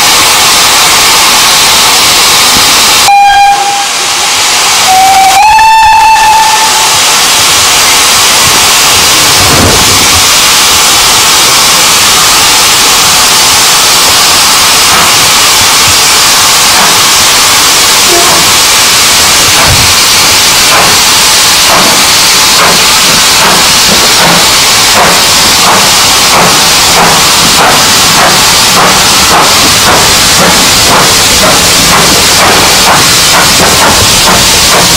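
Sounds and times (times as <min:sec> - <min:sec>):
hiss of escaping steam: 0:00.0 - 0:34.9
steam locomotive exhaust beats: 0:00.0 - 0:34.9.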